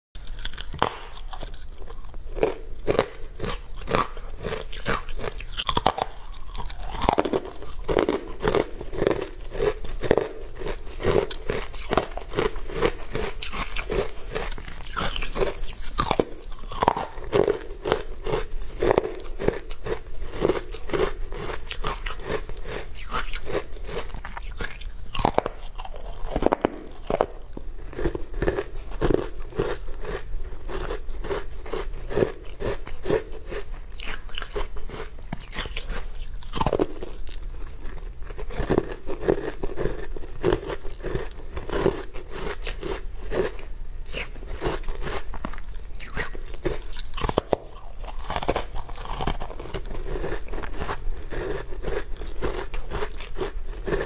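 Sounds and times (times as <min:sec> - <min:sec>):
crunchy food chewing: 0:00.2 - 0:54.0.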